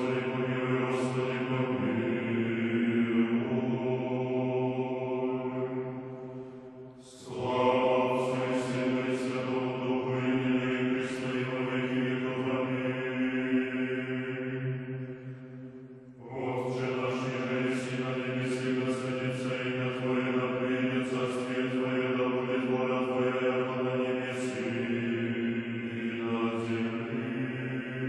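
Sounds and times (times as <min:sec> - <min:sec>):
men's choir chanting: 0:00.0 - 0:15.4, 0:16.2 - 0:28.0.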